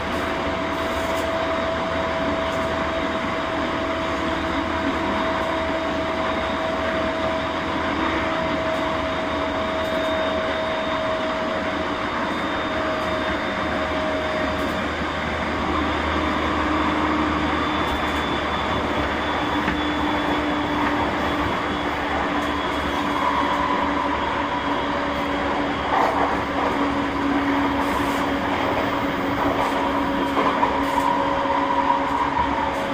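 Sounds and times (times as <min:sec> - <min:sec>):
rail and wheel noise: 0:00.0 - 0:32.9
train motor whine: 0:00.0 - 0:32.9.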